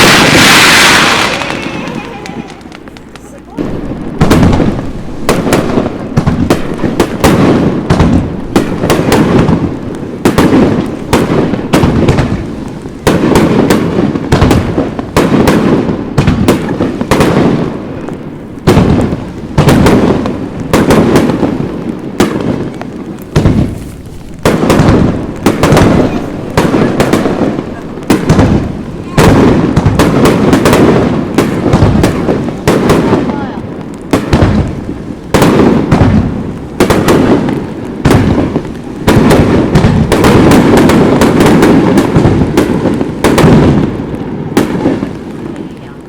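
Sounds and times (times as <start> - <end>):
fireworks bursting: 0.0 - 46.0.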